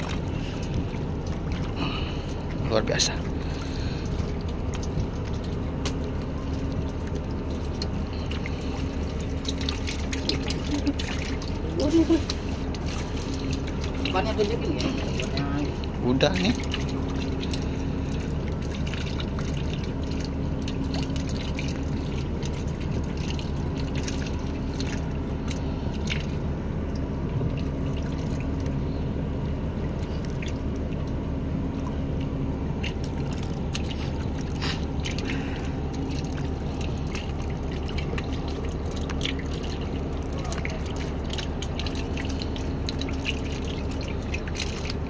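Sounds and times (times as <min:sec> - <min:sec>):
steady low hum: 0:00.0 - 0:45.0
water dripping and splashing: 0:00.0 - 0:45.0.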